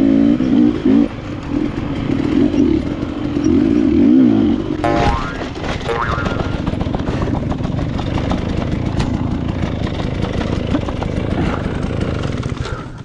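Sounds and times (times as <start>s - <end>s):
motorcycle engine idling: 1.1s - 13.0s.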